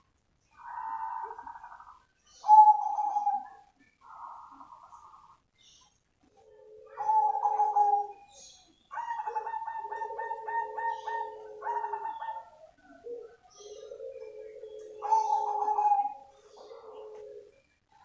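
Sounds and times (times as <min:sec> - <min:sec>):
dove cooing: 0:00.5 - 0:05.4, 0:06.2 - 0:18.0.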